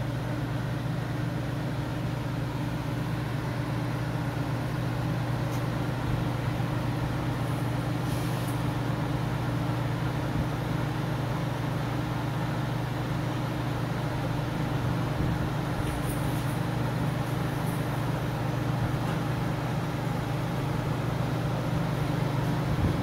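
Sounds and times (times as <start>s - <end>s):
pizza oven blower fans humming: 0.0s - 23.0s.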